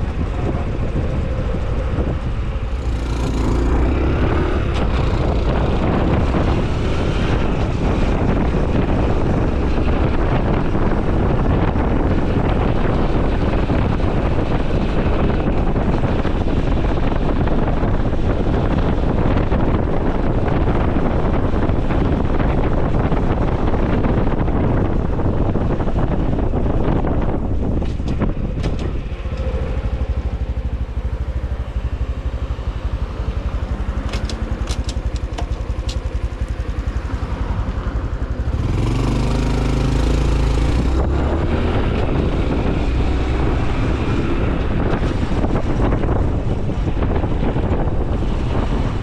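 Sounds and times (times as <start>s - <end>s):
motorcycle engine and exhaust: 0.0s - 49.0s
wind rush on microphone: 0.0s - 49.0s.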